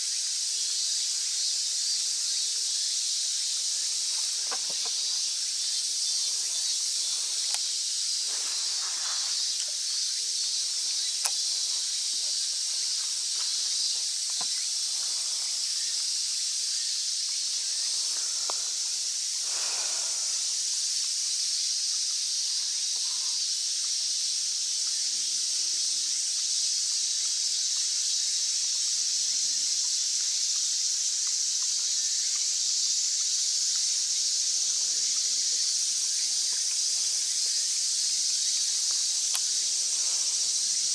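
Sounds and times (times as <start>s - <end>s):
cicadas chorus: 0.0s - 40.9s.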